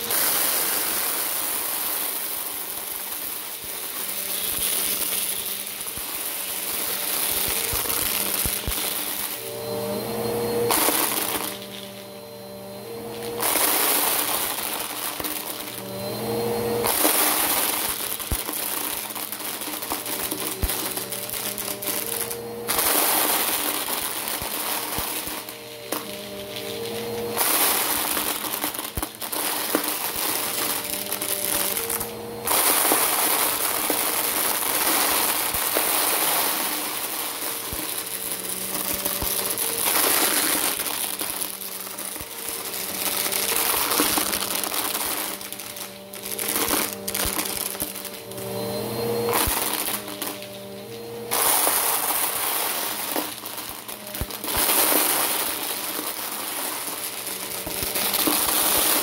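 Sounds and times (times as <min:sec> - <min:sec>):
plastic cubes clattering up vacuum nozzle: 0:00.0 - 0:59.0
vacuum motor hum: 0:00.0 - 0:59.0.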